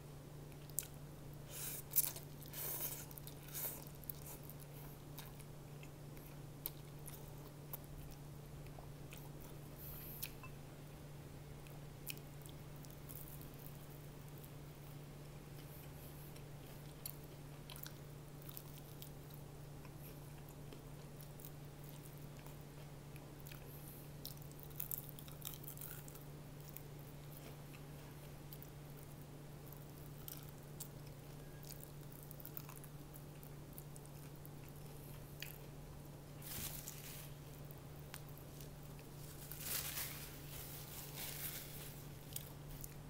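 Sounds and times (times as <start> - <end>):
person chewing crispy food: 0.5 - 10.5, 11.6 - 43.0.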